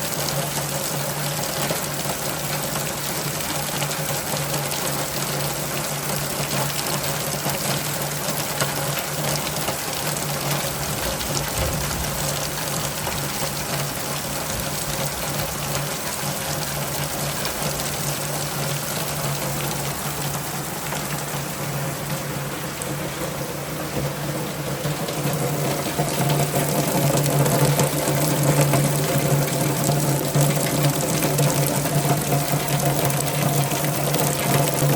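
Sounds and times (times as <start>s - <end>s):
steady rain: 0.0s - 34.9s
water running and gushing: 0.0s - 34.9s.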